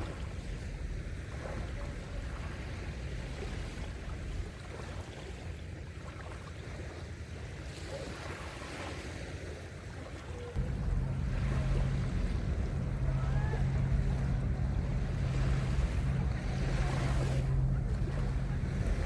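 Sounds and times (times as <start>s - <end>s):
sea waves washing onto beach: 0.0s - 19.0s
wind rumble on microphone: 0.0s - 19.0s.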